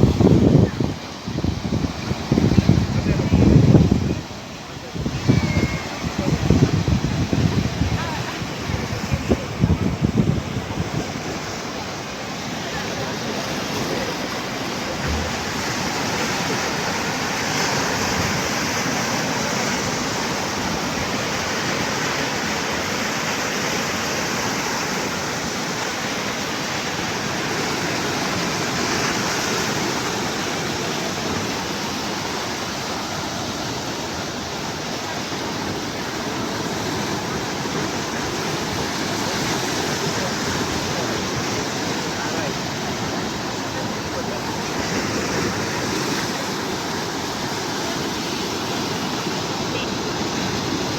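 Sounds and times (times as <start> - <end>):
sea waves breaking: 0.0 - 50.9.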